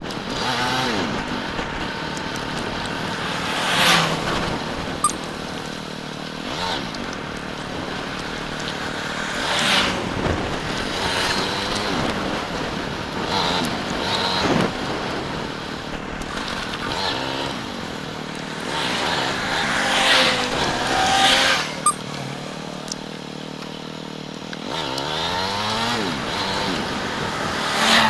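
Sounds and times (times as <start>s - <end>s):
motorcycle engine revving: 0.0s - 28.0s
road and wind noise: 0.0s - 28.0s.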